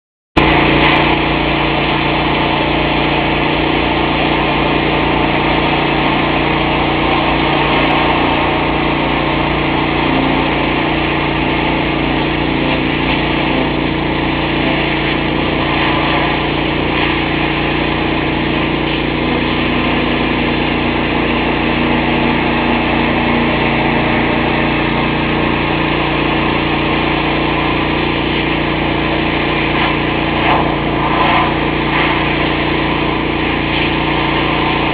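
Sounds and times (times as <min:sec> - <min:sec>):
pressure washer engine running: 0:00.4 - 0:34.9.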